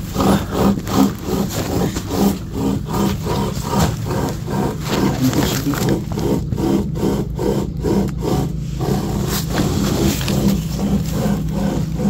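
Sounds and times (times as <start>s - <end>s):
rhythmic scraping: 0.0s - 12.0s
steady low rumble: 0.0s - 12.0s.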